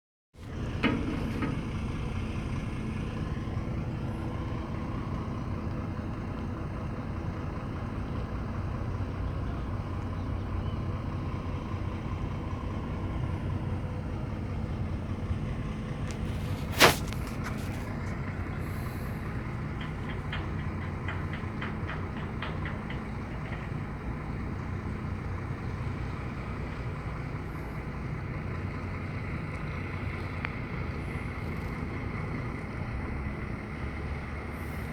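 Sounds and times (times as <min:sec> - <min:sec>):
boat engine running: 0:00.4 - 0:34.9.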